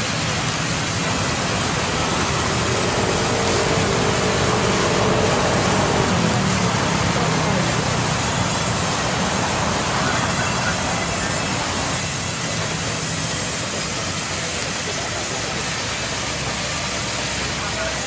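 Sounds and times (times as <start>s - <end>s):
band saw cutting timber: 0.0s - 17.5s.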